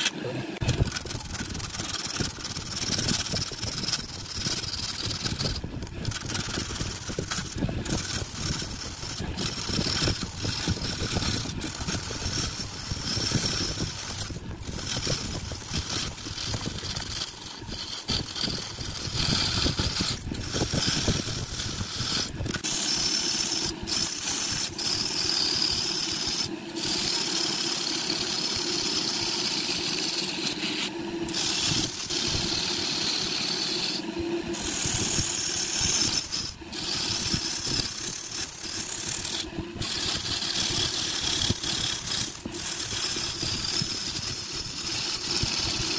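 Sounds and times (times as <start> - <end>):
tools cutting spinning wood: 0.0 - 45.9
wood lathe running: 0.6 - 45.9.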